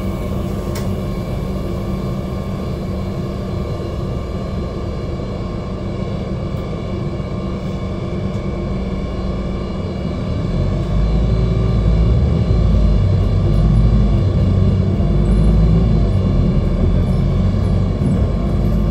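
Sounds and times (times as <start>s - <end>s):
bus engine and road rumble: 0.0s - 18.9s.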